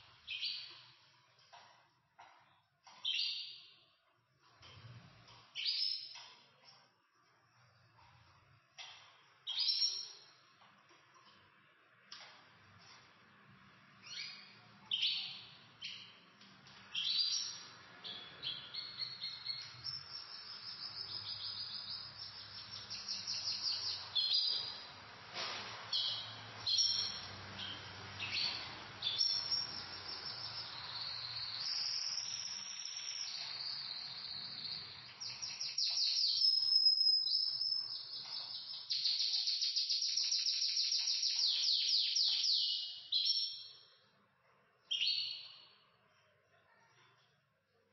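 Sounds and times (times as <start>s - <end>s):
canaries singing: 0.0s - 11.4s, 13.8s - 44.0s, 44.8s - 45.8s.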